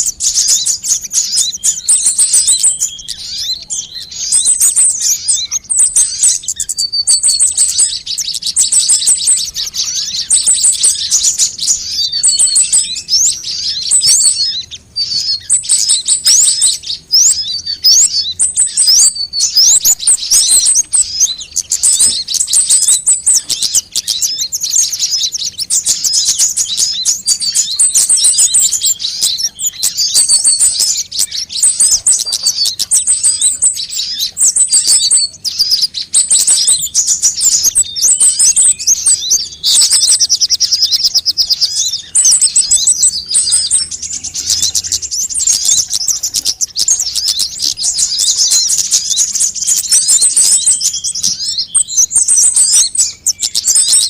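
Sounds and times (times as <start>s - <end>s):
sunbirds chirping and trilling: 0.0s - 54.0s.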